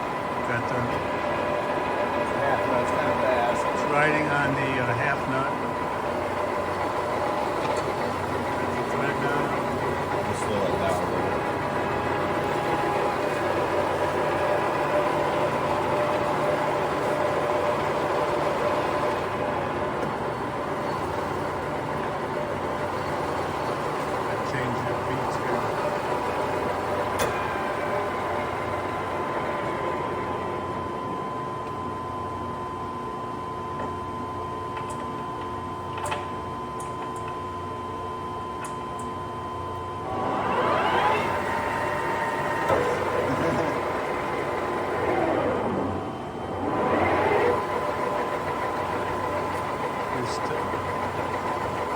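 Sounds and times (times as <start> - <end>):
lathe running with gear whine: 0.0 - 36.8, 37.4 - 51.9.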